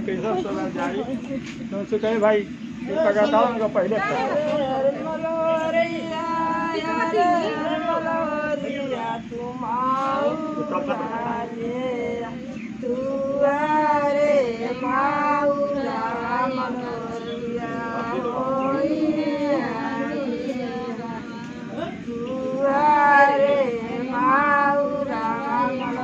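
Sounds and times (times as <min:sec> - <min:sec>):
women singing a folk song: 0:04.0 - 0:26.0.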